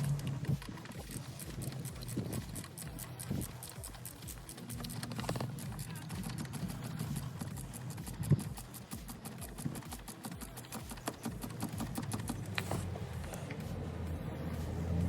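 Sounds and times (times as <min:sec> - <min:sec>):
ratchet clicking: 0:00.0 - 0:13.7.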